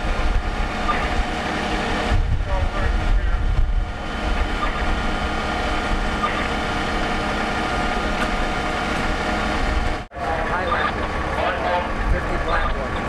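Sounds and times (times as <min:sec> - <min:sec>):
fire engines idling: 0:00.0 - 0:13.0.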